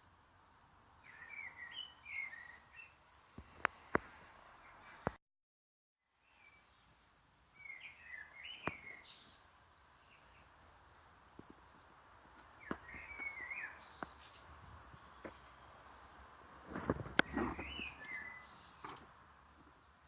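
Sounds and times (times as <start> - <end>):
faint birds warbling: 0.0 - 5.2, 6.2 - 20.0.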